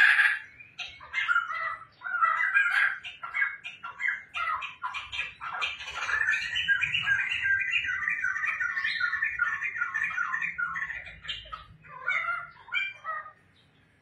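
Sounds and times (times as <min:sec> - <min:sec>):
bird calls: 0:00.0 - 0:14.0
bird chattering song: 0:00.0 - 0:14.0.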